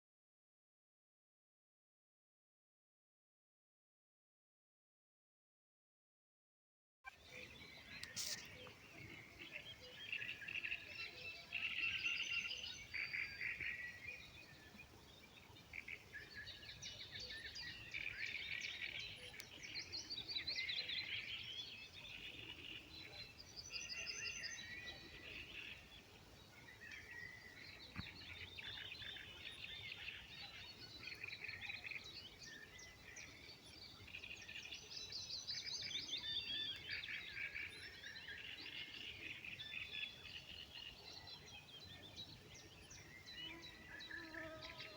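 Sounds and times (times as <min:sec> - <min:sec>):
songbirds singing: 0:07.1 - 0:44.9.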